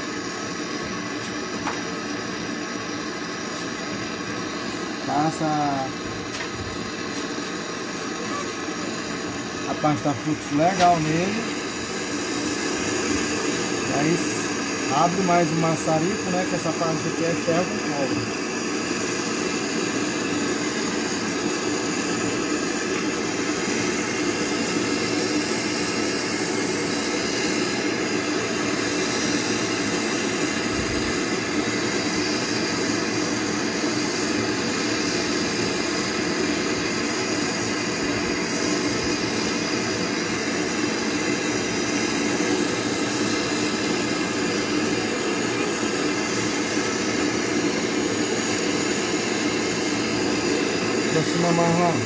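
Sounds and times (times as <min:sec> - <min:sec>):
gas torch rushing: 0:00.0 - 0:52.0.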